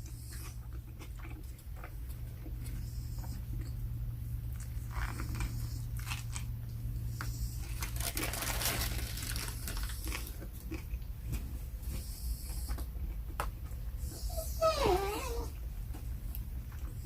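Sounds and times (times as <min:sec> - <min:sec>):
chewing and crunching food: 0:00.0 - 0:17.0
steady low hum: 0:00.0 - 0:17.0.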